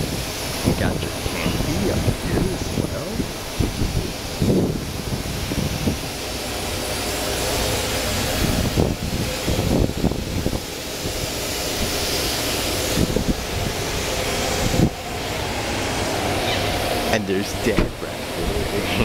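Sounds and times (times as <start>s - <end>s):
vacuum stations roaring: 0.0s - 19.0s.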